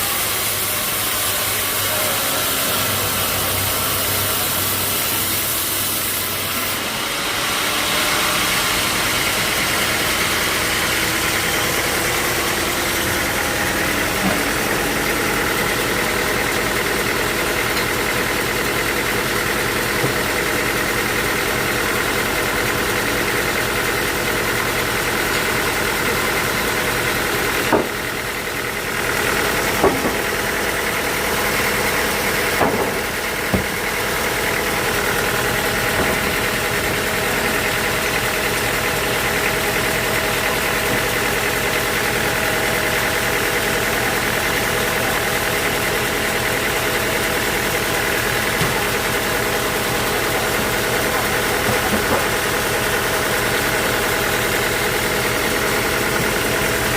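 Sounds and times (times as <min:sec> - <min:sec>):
sawmill machinery humming: 0:00.0 - 0:56.9.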